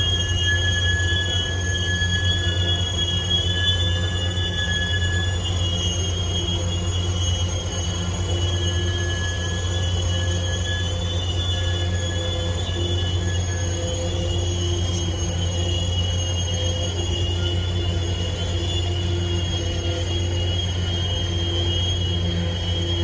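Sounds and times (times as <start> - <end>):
low drone of train: 0.0 - 23.0
train wheels squealing on rail: 0.0 - 23.0.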